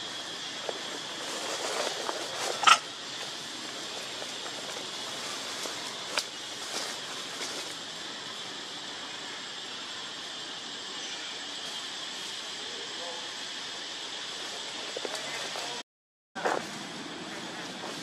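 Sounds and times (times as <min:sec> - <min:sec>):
steady high hiss: 0:00.0 - 0:15.8.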